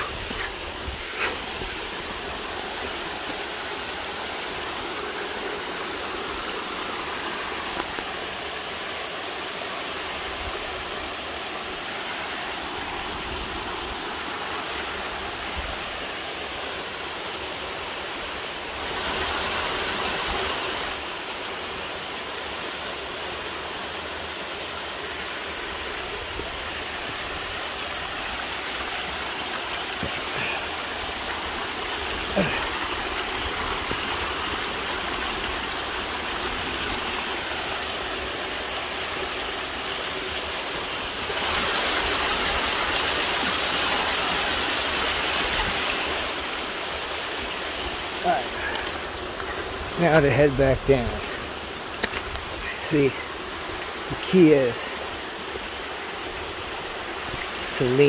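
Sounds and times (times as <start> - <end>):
creek cascading over rocks: 0.0 - 58.0.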